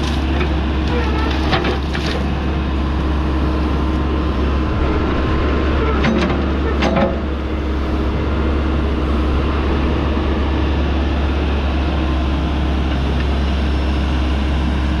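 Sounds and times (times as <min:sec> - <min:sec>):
diesel engine running: 0:00.0 - 0:15.0
hydraulics working: 0:00.0 - 0:15.0.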